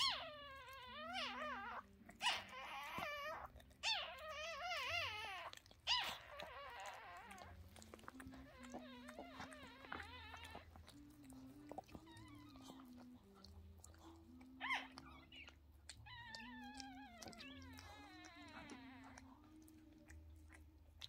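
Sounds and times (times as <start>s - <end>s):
puppies crying: 0.0s - 20.7s.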